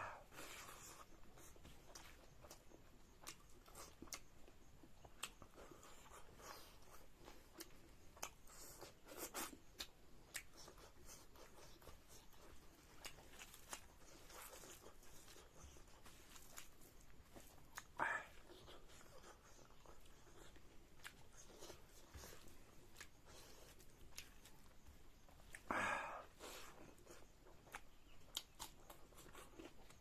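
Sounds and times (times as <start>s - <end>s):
chewing with soft crunches: 0.0s - 30.0s.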